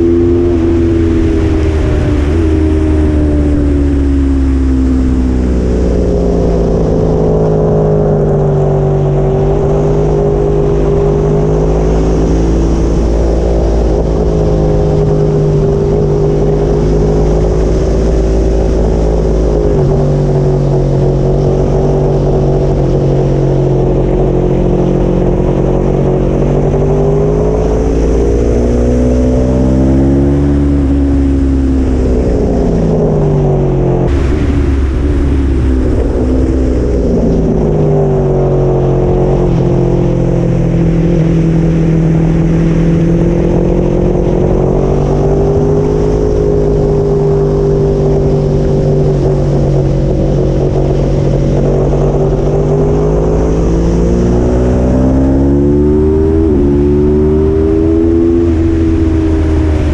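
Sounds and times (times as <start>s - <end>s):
motorcycle engine at speed: 0.0s - 59.9s
wind rumble on microphone: 0.0s - 59.9s.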